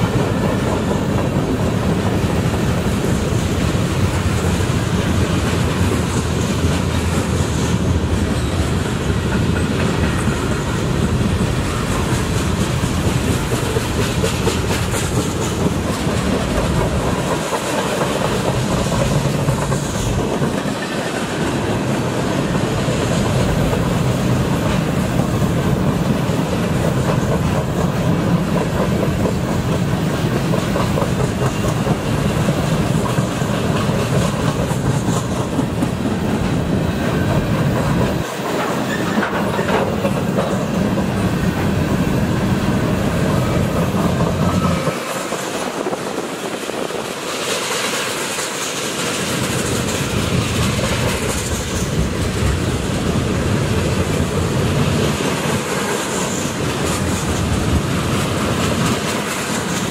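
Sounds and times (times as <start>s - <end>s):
clacking at rail joints: 0.0s - 59.9s
steel wheels rumbling on rail: 0.0s - 59.9s.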